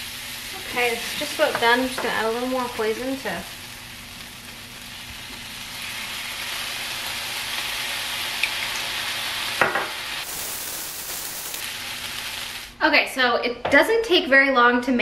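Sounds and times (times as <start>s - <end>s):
tofu sizzling in a frying pan: 0.0s - 12.8s.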